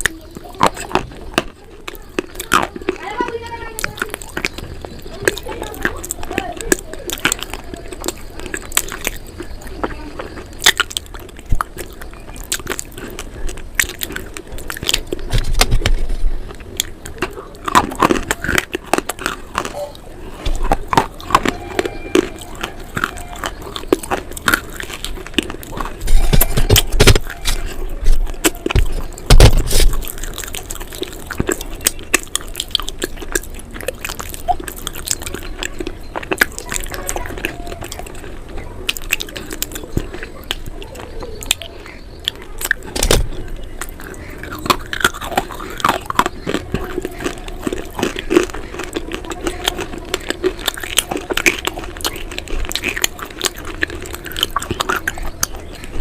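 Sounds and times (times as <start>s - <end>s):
crunching and chewing in mouth: 0.0s - 56.0s.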